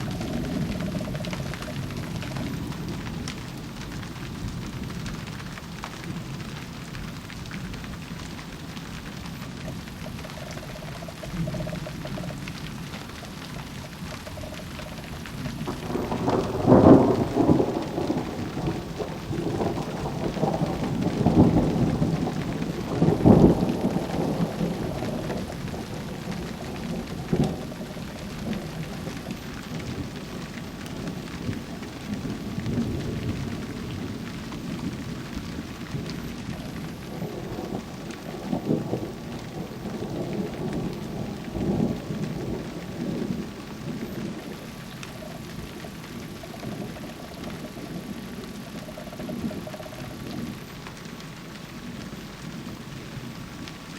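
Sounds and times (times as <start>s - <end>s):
steady rain: 0.0s - 53.9s
thunder rumbling: 0.0s - 53.9s.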